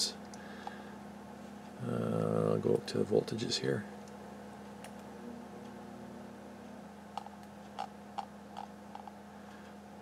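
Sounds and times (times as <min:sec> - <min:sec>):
faint steady hum with hiss: 0:00.0 - 0:10.0.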